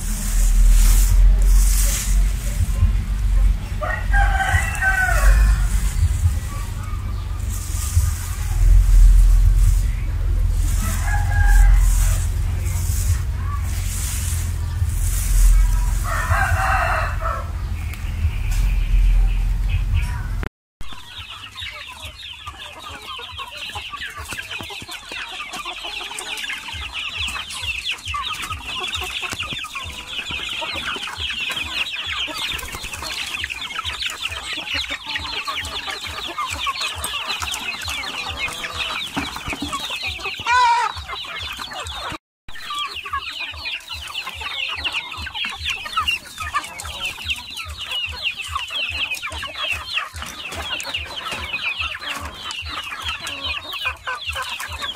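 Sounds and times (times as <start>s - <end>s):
chicks peeping: 0.0s - 54.9s.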